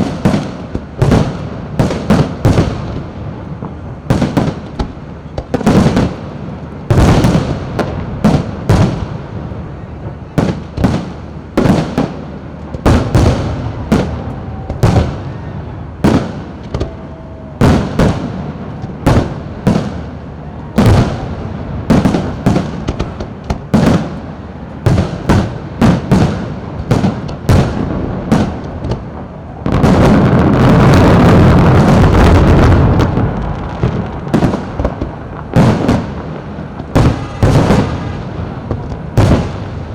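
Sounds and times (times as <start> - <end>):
dense firework crackling: 0.0 - 39.9
firework bangs and booms: 0.0 - 39.9.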